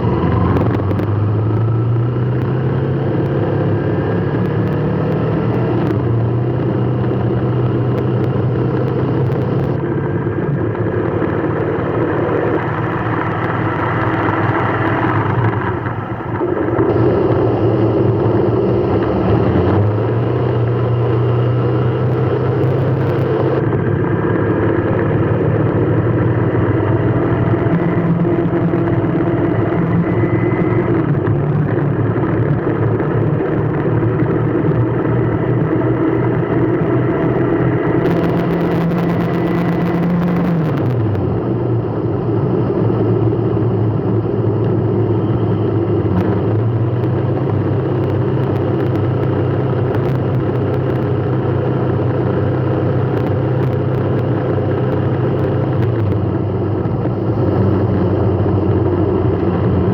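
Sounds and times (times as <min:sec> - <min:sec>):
car engine humming: 0:00.0 - 0:59.9
road noise: 0:00.0 - 0:59.9.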